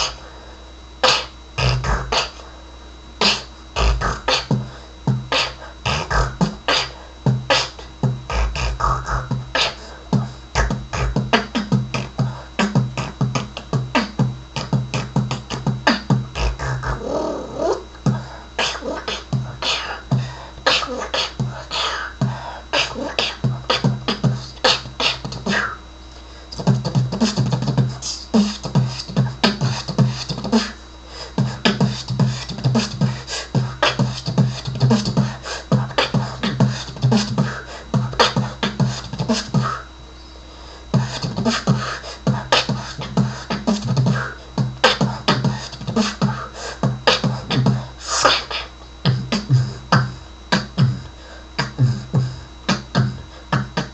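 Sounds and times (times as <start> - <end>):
person beatboxing: 0.0 - 0.3, 0.9 - 2.5, 3.2 - 40.0, 40.8 - 53.9.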